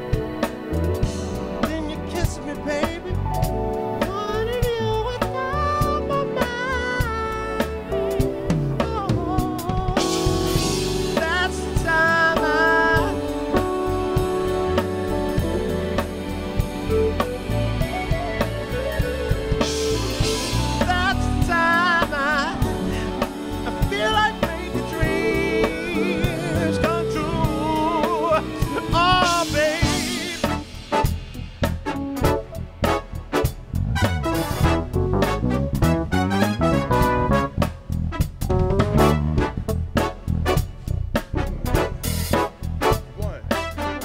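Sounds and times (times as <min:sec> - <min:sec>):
live soul band: 0:00.0 - 0:44.0
melodic lead line with vibrato: 0:00.0 - 0:44.0.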